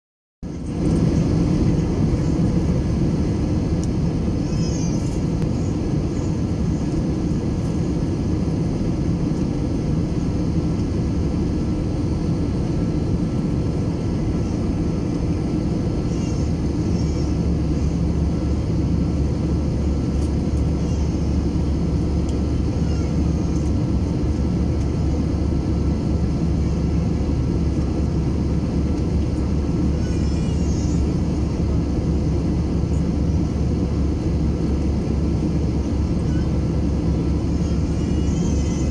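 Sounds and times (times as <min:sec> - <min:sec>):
jet engines droning: 0:00.4 - 0:38.9.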